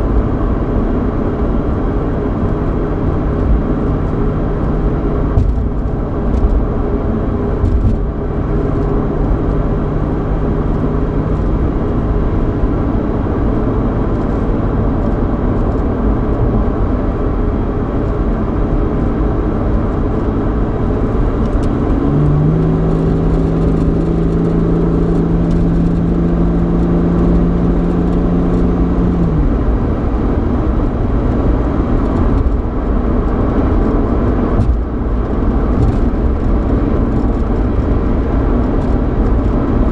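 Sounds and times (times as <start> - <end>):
car engine droning: 0.0 - 39.9
tyre and road rumble: 0.0 - 39.9.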